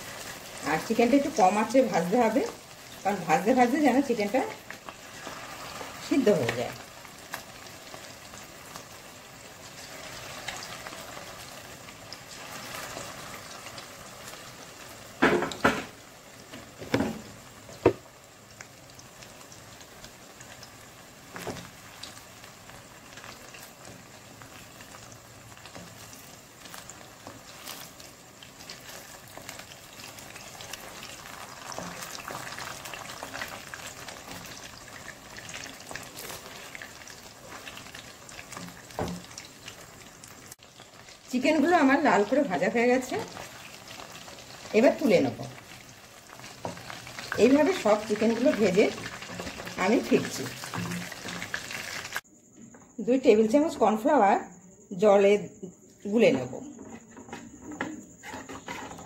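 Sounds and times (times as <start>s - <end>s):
chicken deep-frying in oil: 0.0s - 52.3s.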